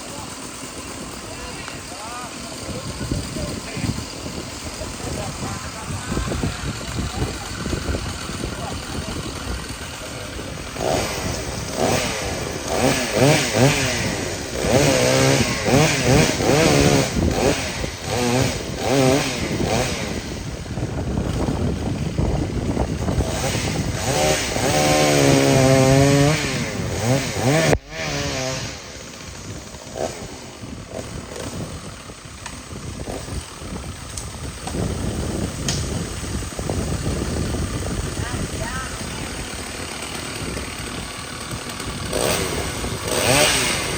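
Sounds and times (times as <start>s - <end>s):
chainsaw cutting under load: 0.0s - 43.9s.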